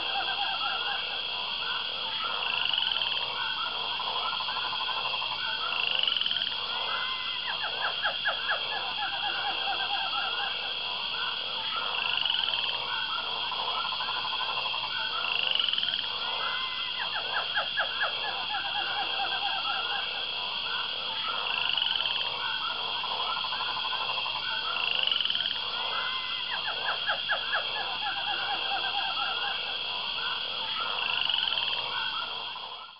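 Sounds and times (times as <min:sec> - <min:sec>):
frogs croaking and trilling: 0:00.0 - 0:32.9.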